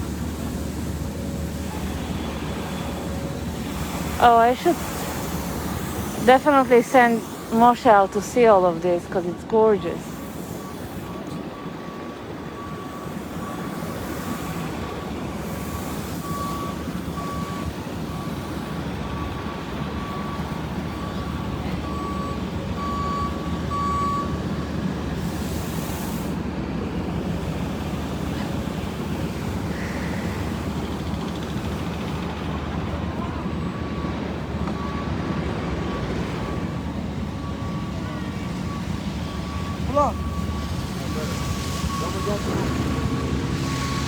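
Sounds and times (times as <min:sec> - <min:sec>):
reversing alarm beeping: 0:00.0 - 0:25.4, 0:27.1 - 0:44.0
engine rumble and street noise: 0:00.0 - 0:44.0.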